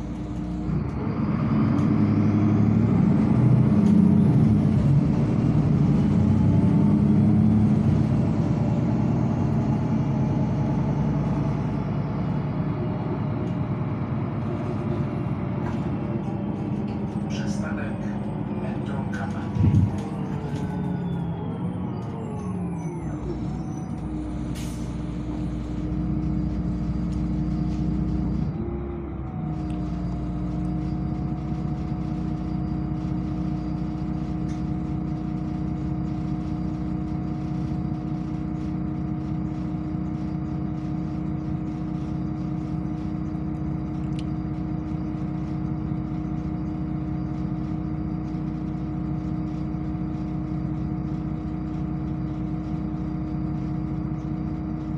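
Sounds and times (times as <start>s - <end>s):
bus drivetrain whine: 0.0s - 54.9s
bus engine idling hum: 0.0s - 54.9s.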